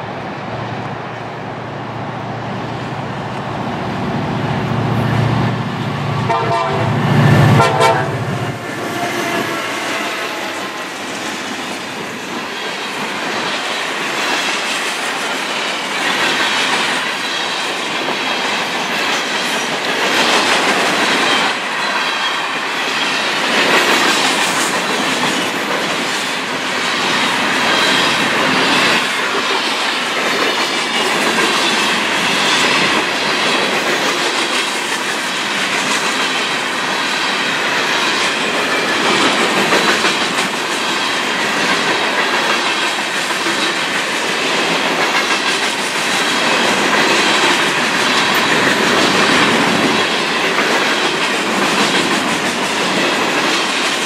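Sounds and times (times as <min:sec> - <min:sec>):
steel train wheels on rails: 0:00.0 - 0:54.0.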